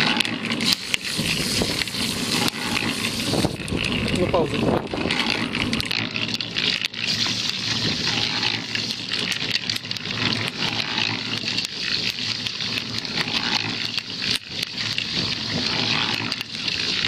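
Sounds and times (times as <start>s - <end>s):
concrete mixer drum turning: 0.0s - 17.0s
water pouring from hose: 0.0s - 17.0s.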